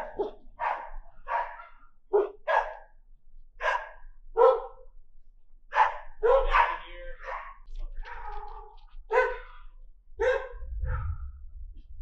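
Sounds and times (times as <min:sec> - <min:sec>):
dog barking: 0:00.0 - 0:02.9, 0:03.6 - 0:04.8, 0:05.7 - 0:11.3.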